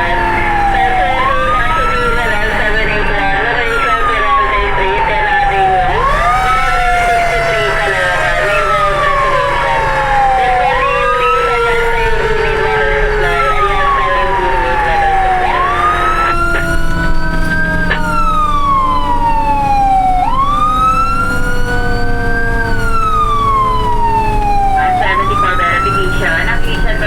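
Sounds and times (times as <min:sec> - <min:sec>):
fire truck siren wailing: 0:00.0 - 0:27.0
lower siren winding down: 0:00.0 - 0:27.0.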